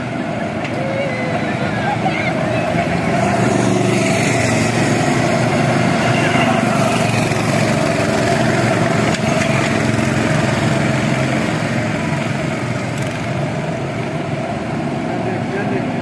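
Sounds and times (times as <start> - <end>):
go-kart engines: 0.0 - 16.0.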